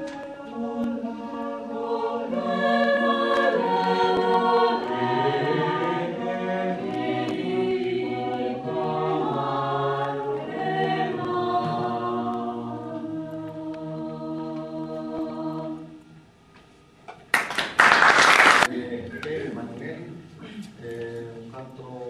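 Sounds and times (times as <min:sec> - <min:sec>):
choir singing a cappella: 0:00.0 - 0:16.2, 0:18.6 - 0:22.0.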